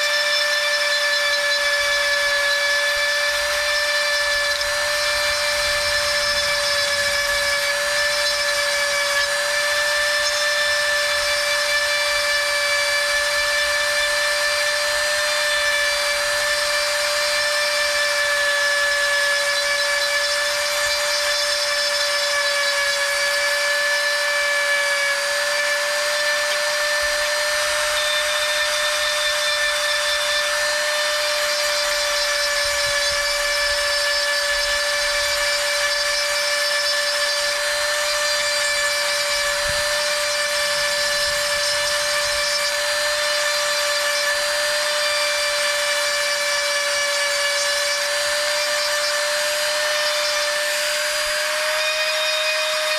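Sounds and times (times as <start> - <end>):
grinding stone grinding plastic: 0.0 - 52.9
rotary tool whining: 0.0 - 52.9.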